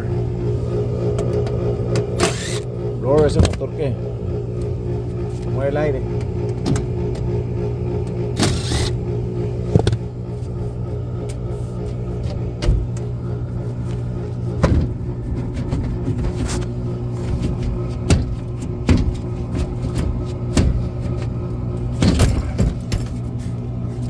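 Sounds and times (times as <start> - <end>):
blower motor humming: 0.0 - 24.0.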